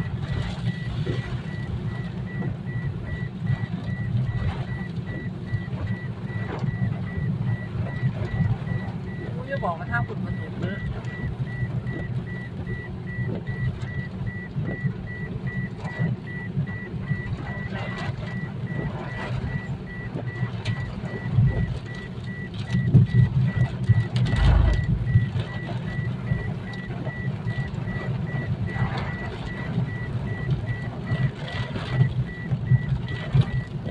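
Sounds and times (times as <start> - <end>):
crackles: 0.0 - 33.9.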